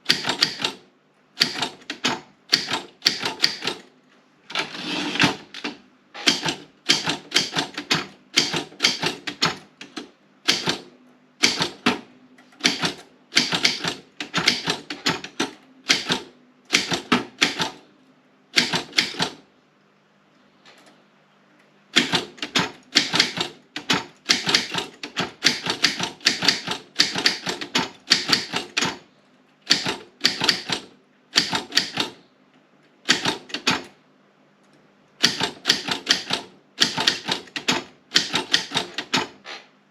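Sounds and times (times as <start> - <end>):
manual typewriter typing: 0.0 - 0.8, 1.4 - 3.9, 4.5 - 17.8, 18.5 - 19.4, 21.9 - 29.0, 29.6 - 32.2, 33.0 - 33.9, 35.2 - 39.4.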